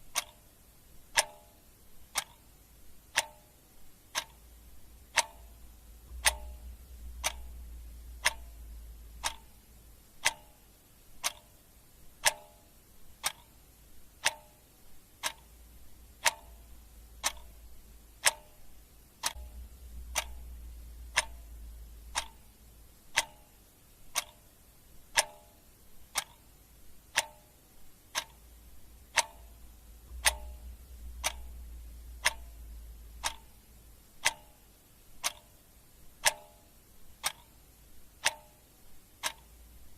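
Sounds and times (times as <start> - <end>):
clock ticking: 0.0 - 39.9
faint low rumble: 0.0 - 39.9.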